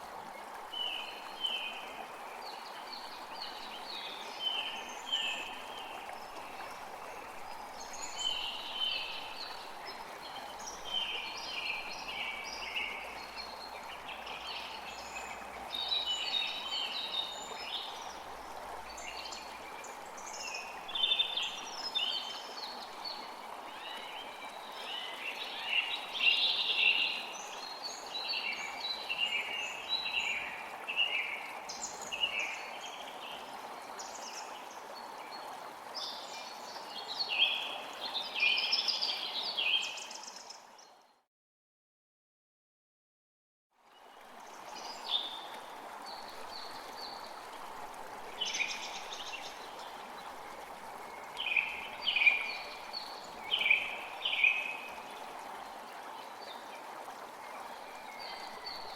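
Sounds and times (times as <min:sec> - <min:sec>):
creek rushing: 0:00.0 - 0:40.8, 0:43.8 - 0:58.9.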